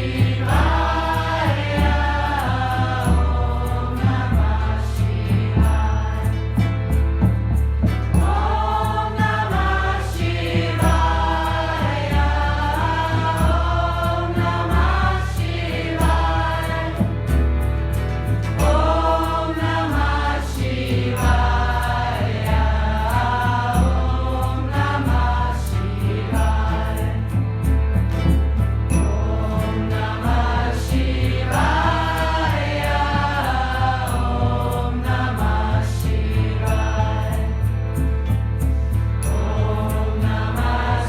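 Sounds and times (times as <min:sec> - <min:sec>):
choir chanting: 0:00.0 - 0:07.3, 0:08.1 - 0:17.6, 0:18.6 - 0:27.8, 0:28.9 - 0:38.1, 0:39.2 - 0:41.0
low bass pulse: 0:00.0 - 0:41.0.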